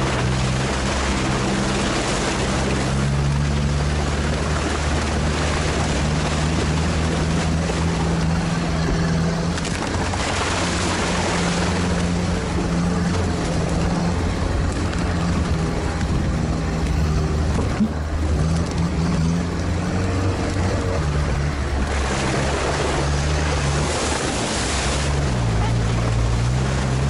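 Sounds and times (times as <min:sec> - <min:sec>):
all-terrain vehicle engine running: 0:00.0 - 0:27.0.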